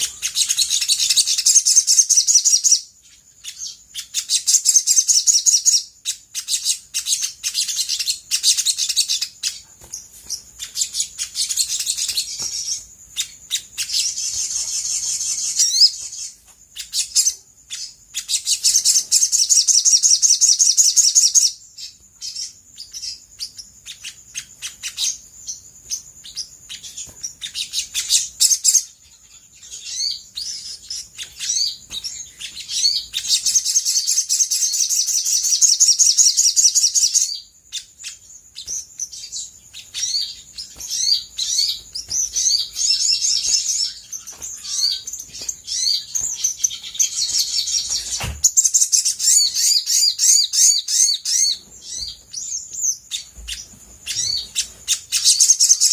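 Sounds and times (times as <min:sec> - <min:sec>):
bird twittering trills: 0:00.0 - 0:55.9.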